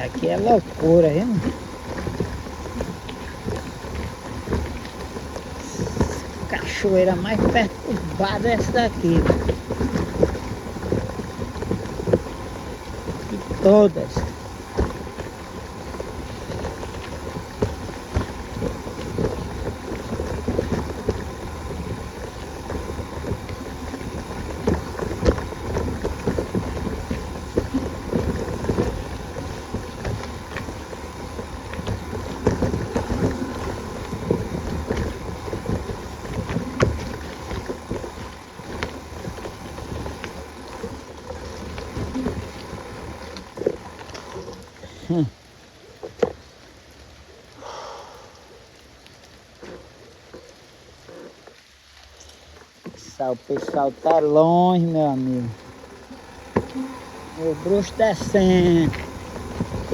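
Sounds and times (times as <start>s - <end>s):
steady rumble: 0.0s - 45.4s, 53.0s - 59.9s
bicycle knocking and rattling: 0.0s - 47.0s, 49.5s - 59.9s.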